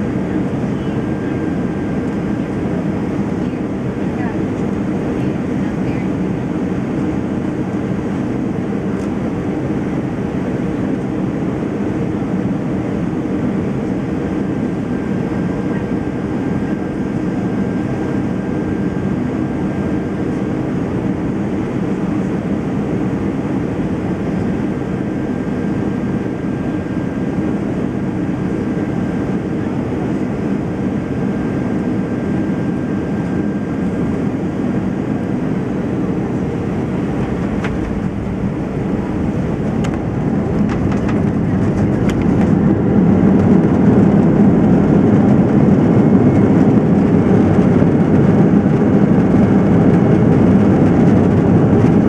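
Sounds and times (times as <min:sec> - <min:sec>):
aircraft cabin engine rumble: 0:00.0 - 0:52.0.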